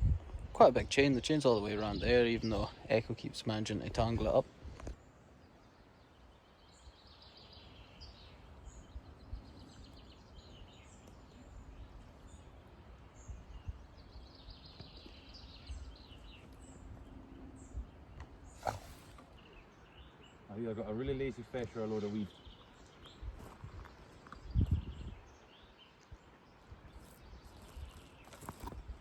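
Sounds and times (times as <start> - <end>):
faint songbird chirping: 0.0 - 29.0.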